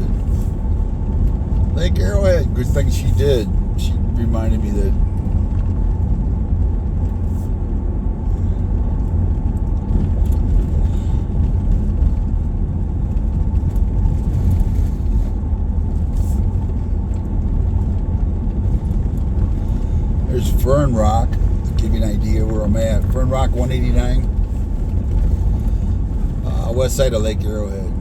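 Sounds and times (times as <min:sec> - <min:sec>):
road noise inside cab: 0:00.0 - 0:28.0
vehicle engine rumble: 0:00.0 - 0:28.0.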